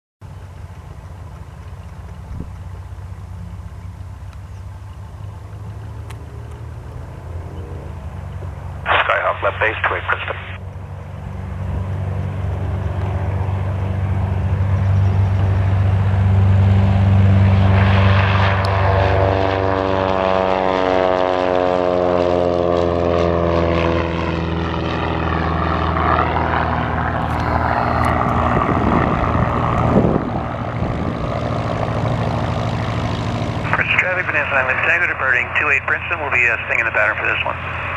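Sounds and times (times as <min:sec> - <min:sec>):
propeller plane passing: 0:00.2 - 0:37.9.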